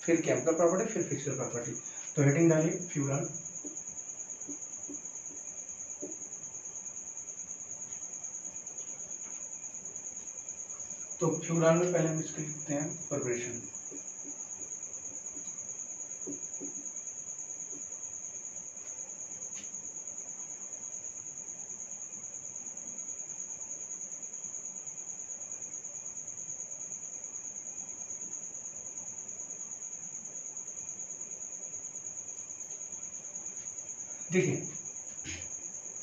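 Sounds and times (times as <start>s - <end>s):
cricket trilling: 0.0s - 36.0s.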